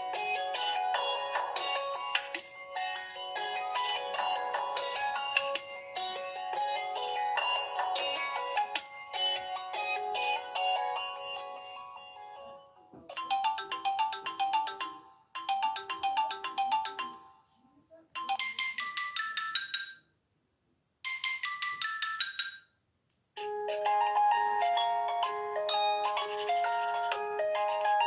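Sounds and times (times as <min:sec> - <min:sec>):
tablet ringtone melodies: 0:00.0 - 0:17.6, 0:18.2 - 0:20.1, 0:21.0 - 0:22.7, 0:23.4 - 0:28.0.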